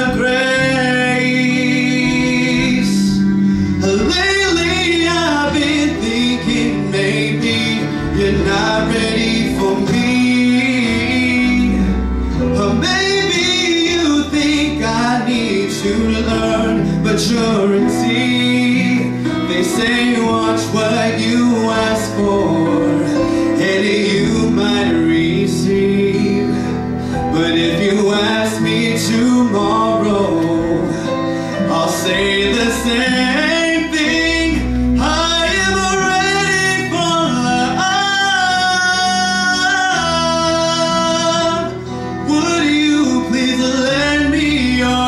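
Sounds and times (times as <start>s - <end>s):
instrumental backing track: 0.0s - 45.0s
man singing into microphone: 0.0s - 45.0s.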